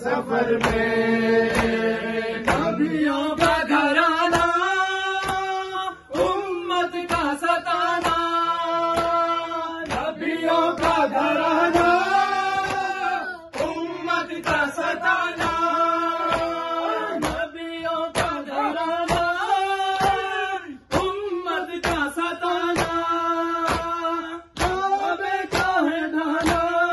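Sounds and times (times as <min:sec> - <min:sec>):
men chanting a lament: 0:00.0 - 0:26.9.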